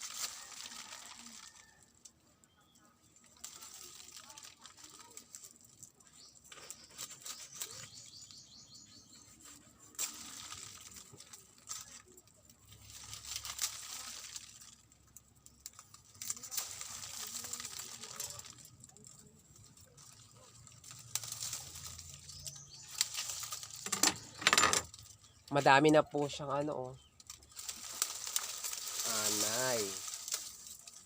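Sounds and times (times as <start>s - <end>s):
thatch rustling and tearing: 0.0s - 1.8s, 3.3s - 25.4s, 27.0s - 31.0s.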